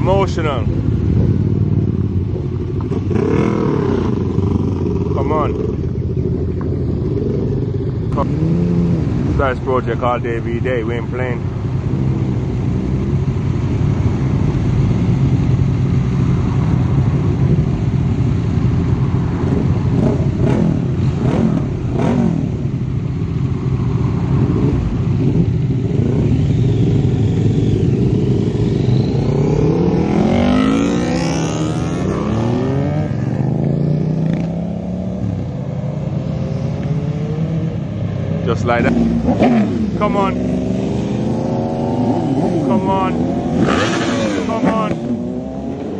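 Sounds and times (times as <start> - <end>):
motorcycle engines idling: 0.0 - 45.9
motorcycle engines revving: 0.0 - 45.9.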